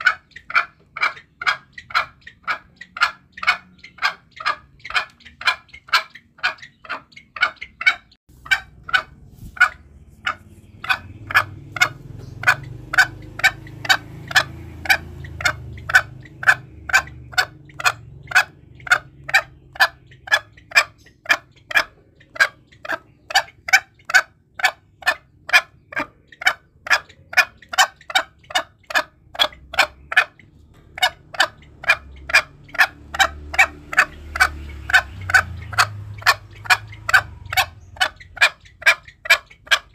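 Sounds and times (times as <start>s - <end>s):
junglefowl clucking: 0.0s - 39.9s.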